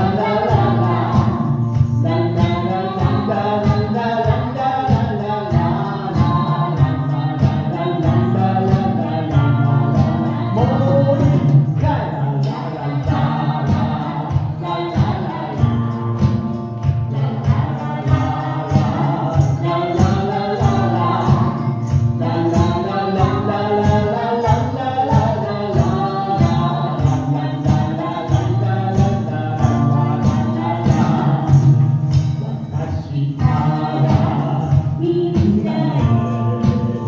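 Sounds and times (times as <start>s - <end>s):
live pop song with singing: 0.0s - 37.0s.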